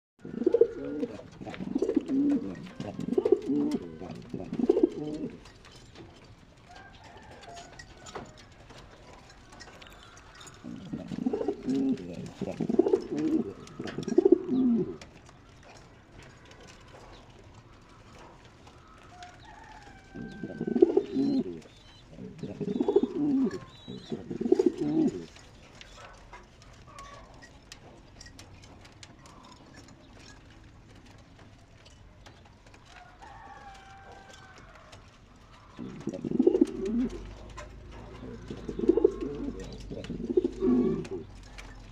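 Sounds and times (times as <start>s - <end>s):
pigeon cooing: 0.2s - 27.6s, 28.2s - 41.9s.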